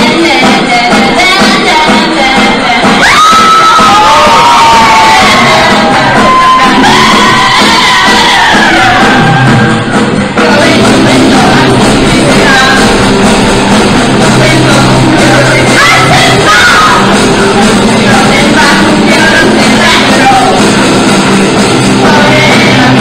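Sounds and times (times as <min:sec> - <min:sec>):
women singing: 0:00.0 - 0:23.0
rock band playing: 0:03.0 - 0:23.0.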